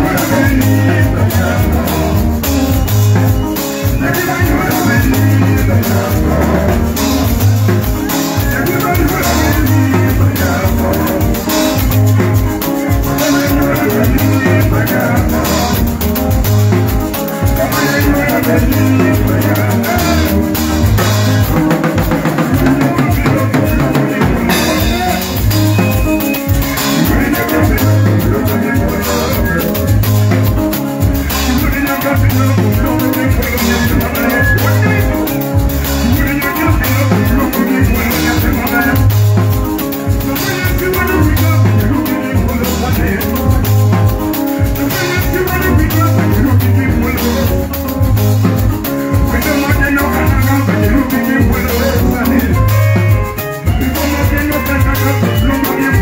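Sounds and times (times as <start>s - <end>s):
live band music: 0.0s - 56.0s
pulsing bass beat: 0.0s - 56.0s.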